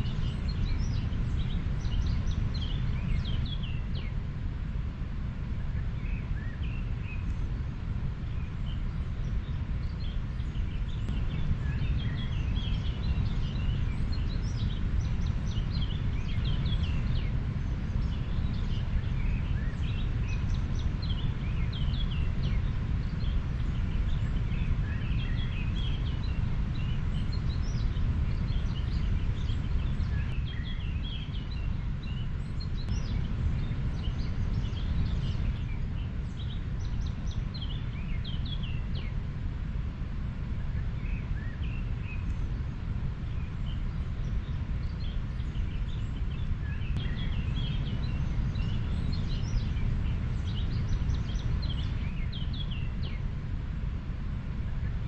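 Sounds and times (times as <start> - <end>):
small birds chirping: 0.0 - 4.2, 5.6 - 55.0.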